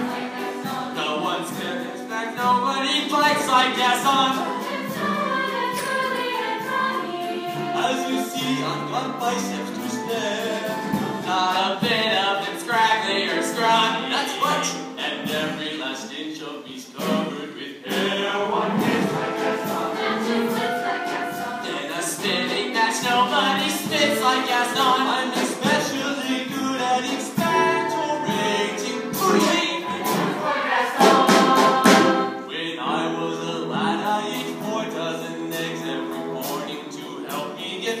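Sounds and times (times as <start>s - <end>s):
chorus singing: 0.0s - 38.0s.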